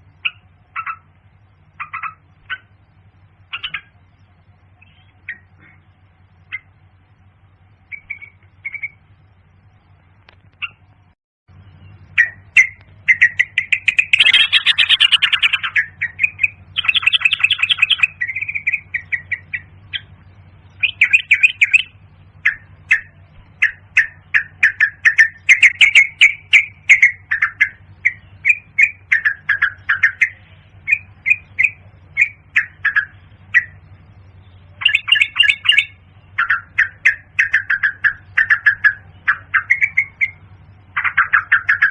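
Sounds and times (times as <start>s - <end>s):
bird chirping: 0.0s - 41.9s
low steady hum: 0.0s - 41.9s.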